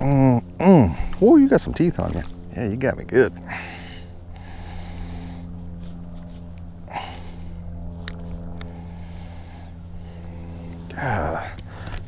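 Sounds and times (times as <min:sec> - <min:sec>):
small boat motor humming: 0:00.0 - 0:12.0.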